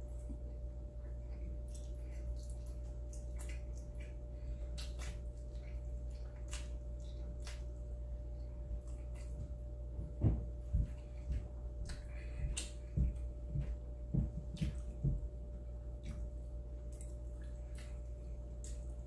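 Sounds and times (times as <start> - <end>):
person chewing wetly: 0.0 - 19.0
steady low hum: 0.0 - 19.0.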